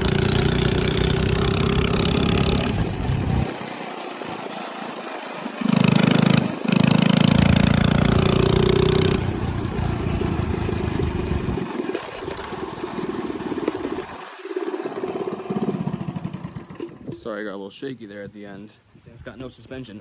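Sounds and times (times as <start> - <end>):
mini bike engine revving: 0.0 - 17.2.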